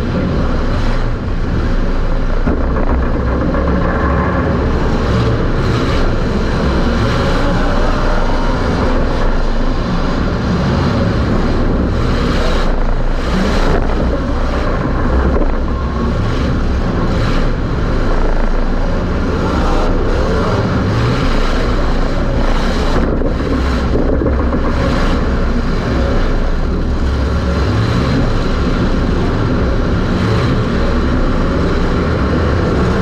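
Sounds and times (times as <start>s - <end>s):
race car engine running hard: 0.0s - 33.0s
wind noise: 0.0s - 33.0s.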